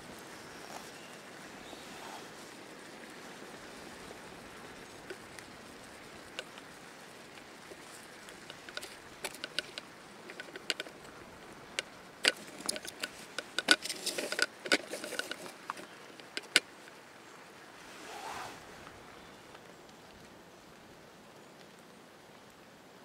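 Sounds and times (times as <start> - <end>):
soft rushing: 0.0 - 20.4
campfire crackling: 0.0 - 23.0.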